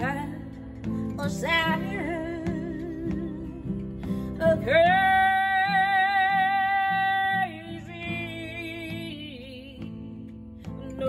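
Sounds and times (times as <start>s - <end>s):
acoustic guitar strumming: 0.0s - 11.0s
woman singing: 0.0s - 11.0s.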